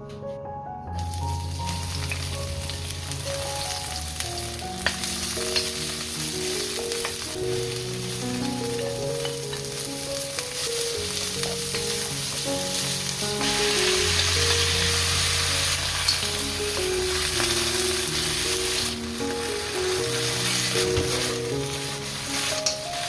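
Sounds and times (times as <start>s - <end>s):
oil sizzling in a wok: 1.0s - 23.0s
wooden spatula stir-frying: 1.0s - 23.0s.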